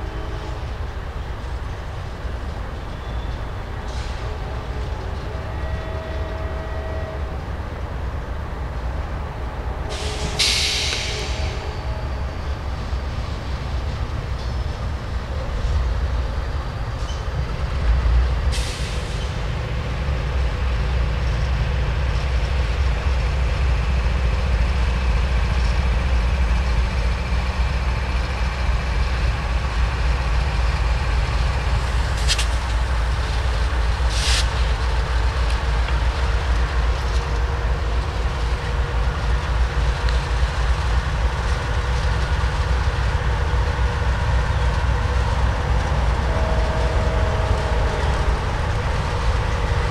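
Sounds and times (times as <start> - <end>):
train rumbling on track: 0.0 - 49.9.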